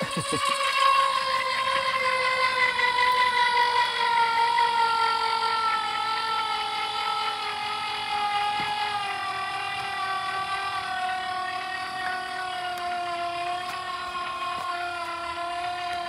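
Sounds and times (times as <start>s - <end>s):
electric jack motor whining: 0.0s - 16.0s.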